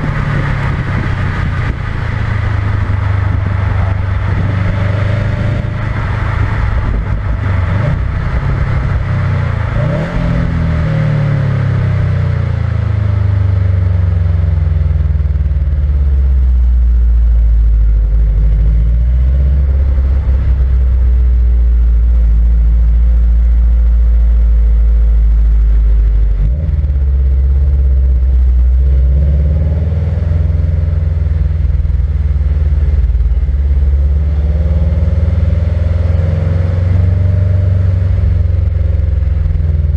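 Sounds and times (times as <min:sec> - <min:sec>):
car engine droning: 0:00.0 - 0:39.9
road noise: 0:00.0 - 0:39.9.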